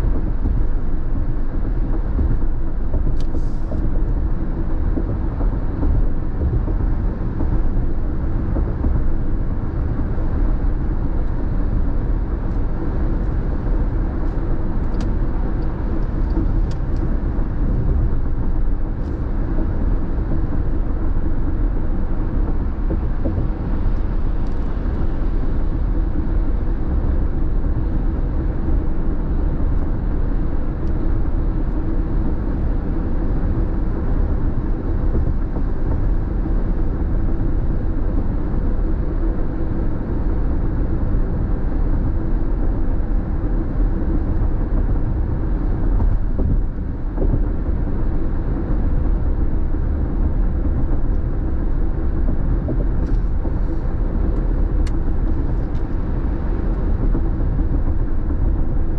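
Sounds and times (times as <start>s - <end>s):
car road noise inside cabin: 0.0s - 58.9s.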